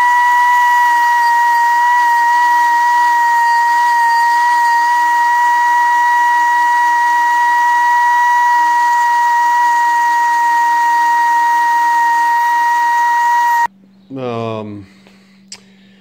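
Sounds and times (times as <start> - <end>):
die grinder whining on metal: 0.0 - 13.7.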